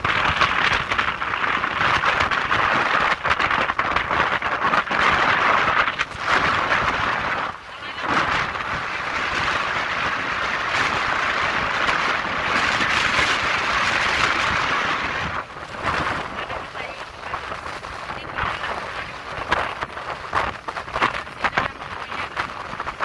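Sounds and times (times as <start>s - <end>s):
rushing wind and water: 0.0s - 23.0s
wind buffeting microphone: 0.0s - 23.0s.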